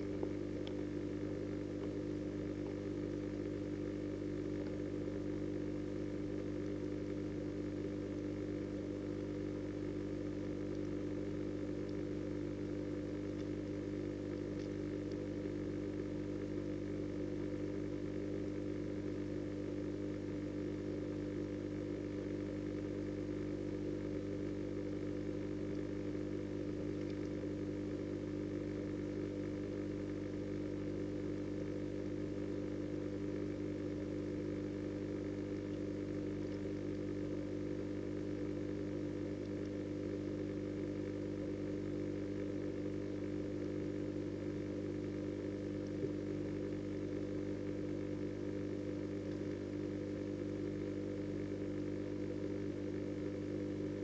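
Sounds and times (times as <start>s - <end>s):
pump humming underwater: 0.0s - 54.0s.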